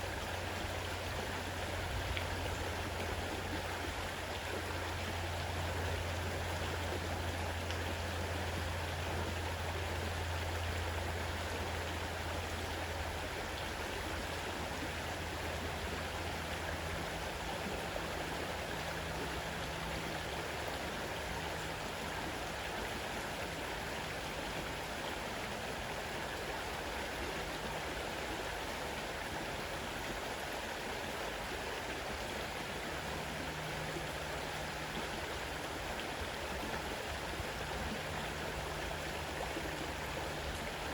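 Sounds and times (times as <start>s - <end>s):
low steady hum: 0.0s - 40.9s
river water rushing: 0.0s - 40.9s.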